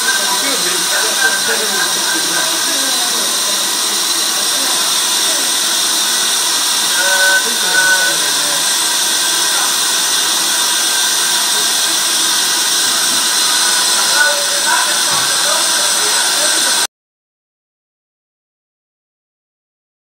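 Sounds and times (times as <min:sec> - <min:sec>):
compressed air hissing through valves: 0:00.0 - 0:16.8.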